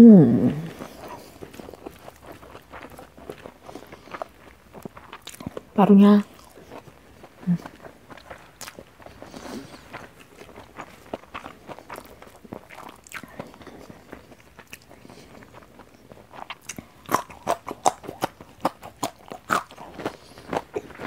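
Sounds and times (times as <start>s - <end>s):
wet chewing: 0.4s - 21.0s
crisp crunching of raw bean: 0.6s - 21.0s.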